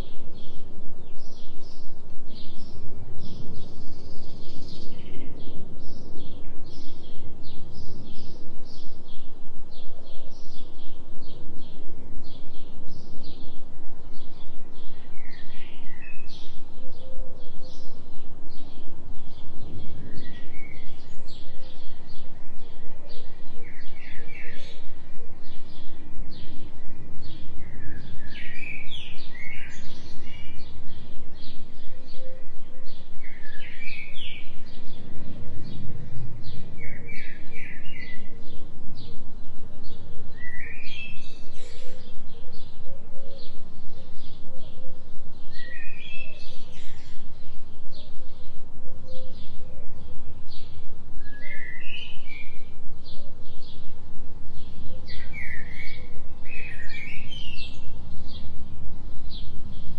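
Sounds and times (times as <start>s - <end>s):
songbirds chirping: 0.0s - 59.9s
steady low hum: 0.0s - 59.9s.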